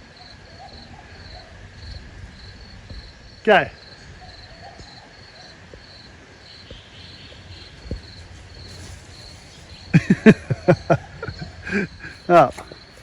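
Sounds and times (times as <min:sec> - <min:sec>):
insect chorus pulsing: 0:00.0 - 0:13.0.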